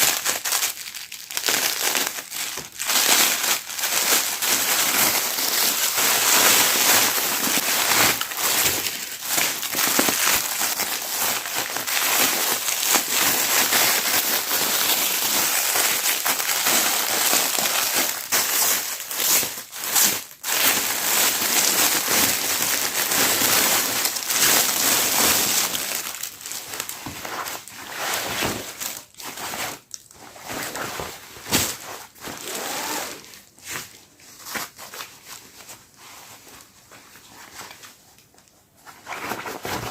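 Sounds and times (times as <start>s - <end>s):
plastic packaging crinkling: 0.0s - 35.9s.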